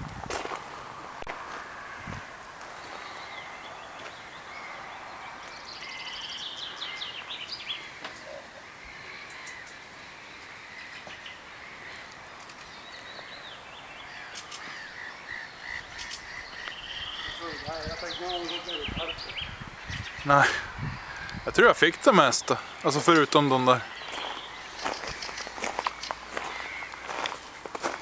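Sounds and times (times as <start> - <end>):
steady outdoor hiss: 0.0 - 28.0
birds singing and calling: 1.5 - 28.0.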